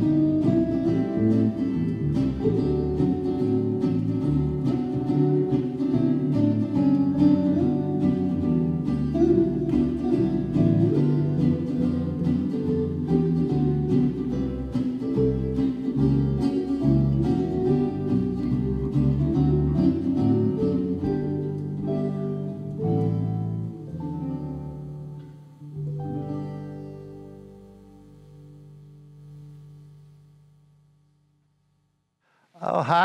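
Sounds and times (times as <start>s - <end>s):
acoustic guitars and bass jazz: 0.0s - 30.9s.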